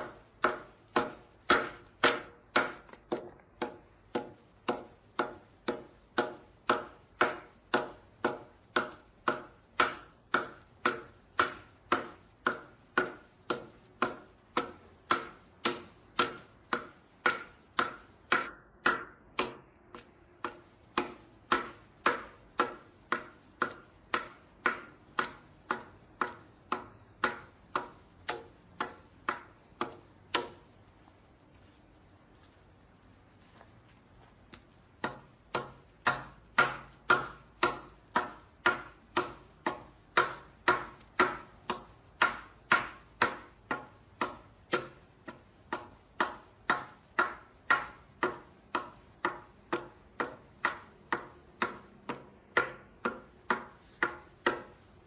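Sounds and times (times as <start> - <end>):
adze chopping wood: 0.0 - 30.6, 35.0 - 54.7.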